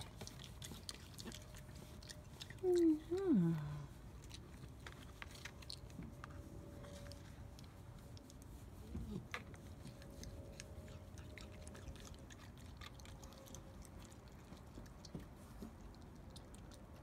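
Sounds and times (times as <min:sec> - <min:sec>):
animal chewing and smacking: 0:00.0 - 0:17.0.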